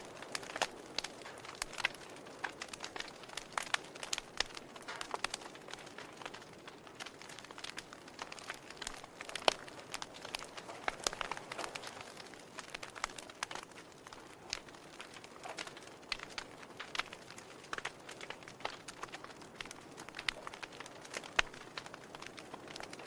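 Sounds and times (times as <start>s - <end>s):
fireplace fire crackling and popping: 0.0s - 23.0s
soft steady hiss: 0.0s - 23.0s.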